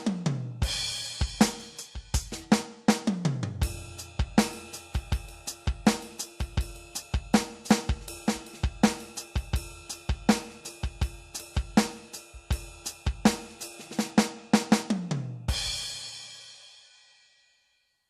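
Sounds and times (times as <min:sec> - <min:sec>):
electronic drum kit groove: 0:00.0 - 0:16.5.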